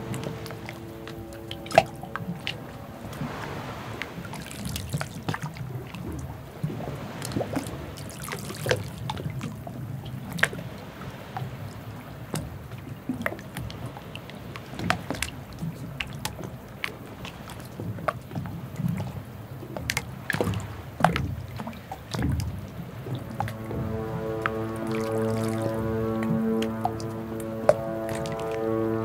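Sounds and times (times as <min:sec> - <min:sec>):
steady low rumble: 0:00.0 - 0:29.0
water lapping and dripping: 0:00.0 - 0:29.0.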